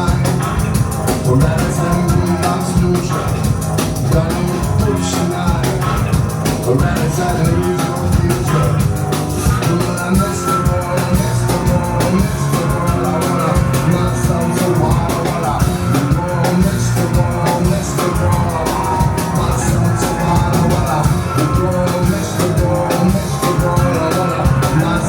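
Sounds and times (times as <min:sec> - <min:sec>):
drum kit beat: 0:00.0 - 0:25.0
live rock band playing: 0:00.0 - 0:25.0.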